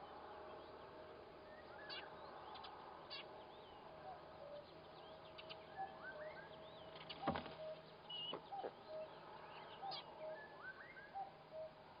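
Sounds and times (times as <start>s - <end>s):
birds whistling: 1.4s - 11.8s.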